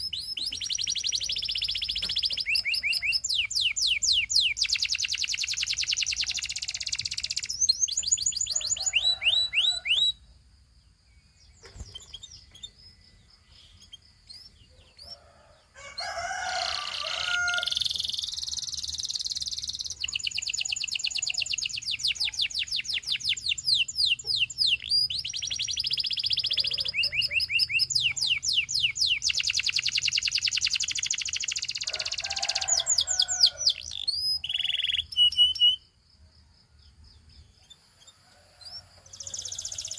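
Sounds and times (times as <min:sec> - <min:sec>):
canary singing trills: 0:00.0 - 0:10.2, 0:11.2 - 0:36.0, 0:37.2 - 0:39.9.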